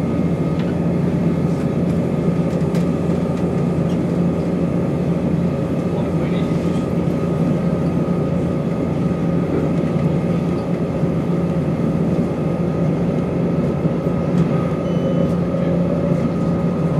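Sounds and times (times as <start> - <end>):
constant whine: 0.0 - 16.9
train running noise: 0.0 - 16.9.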